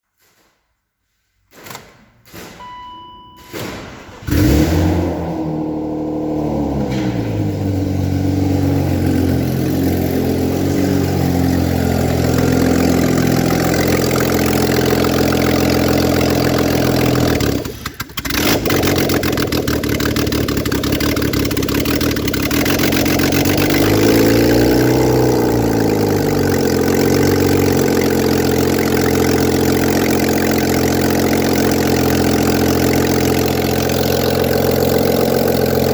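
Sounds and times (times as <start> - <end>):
car engine starting and idling: 2.6 - 35.9
engine revving: 4.1 - 35.9.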